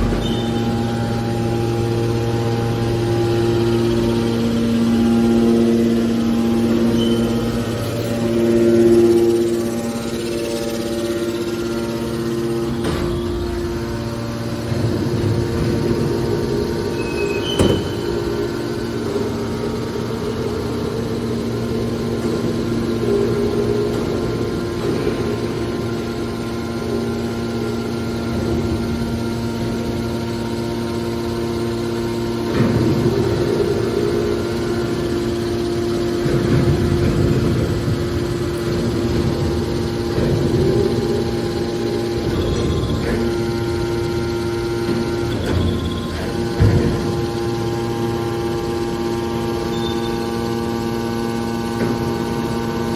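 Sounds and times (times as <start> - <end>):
hydraulic baler humming: 0.0 - 52.9.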